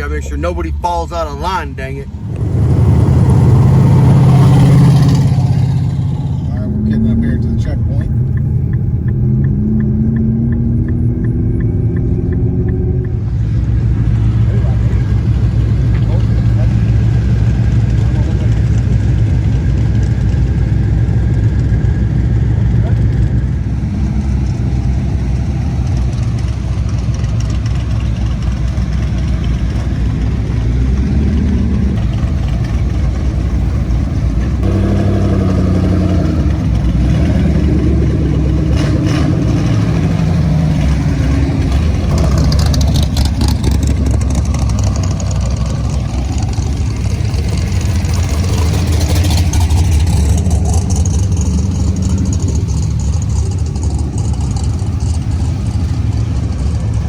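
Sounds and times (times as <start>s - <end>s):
car engines running slowly: 0.0s - 57.0s.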